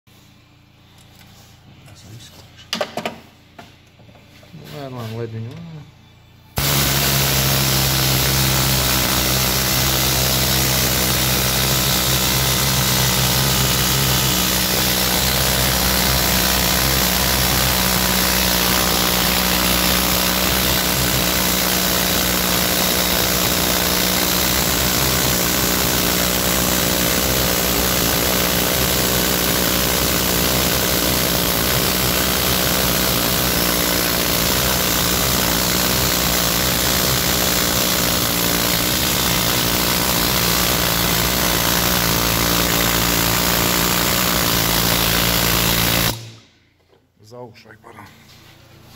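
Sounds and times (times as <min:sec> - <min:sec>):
power tool running: 0:06.5 - 0:46.6.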